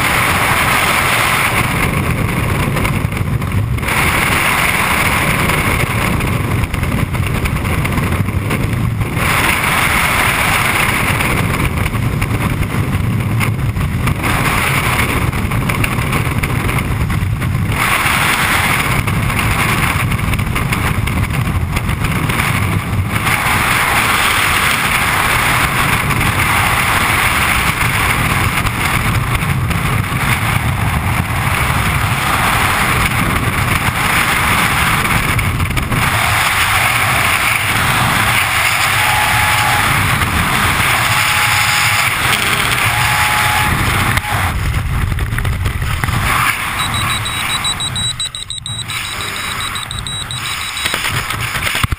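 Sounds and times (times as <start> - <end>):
wind roaring over microphone: 0.0 - 51.9.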